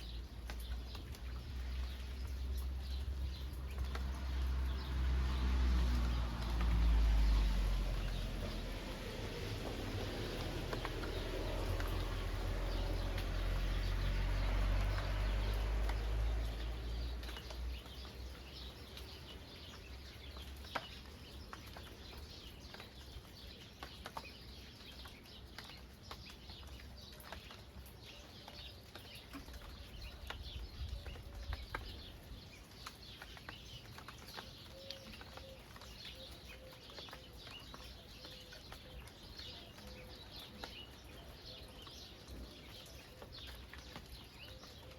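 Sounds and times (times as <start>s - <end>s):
rain dripping and pattering: 0.0s - 44.9s
small birds chirping: 0.0s - 44.9s.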